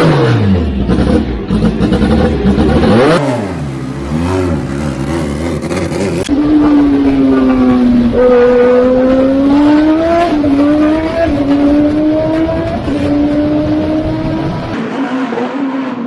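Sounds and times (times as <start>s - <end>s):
racing car engine at full throttle: 0.0s - 16.0s.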